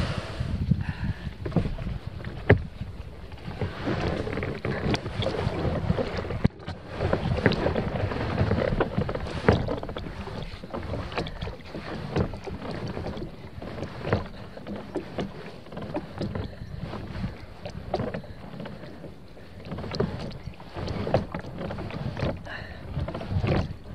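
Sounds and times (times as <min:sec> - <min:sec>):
water sloshing against hull: 0:00.0 - 0:23.9
paddle blades splashing: 0:01.0 - 0:23.9.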